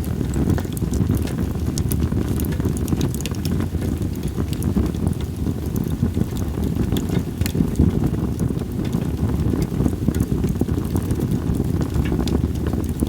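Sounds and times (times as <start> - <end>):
campfire logs crackling: 0.0 - 13.0
wind rumble on microphone: 0.0 - 13.0.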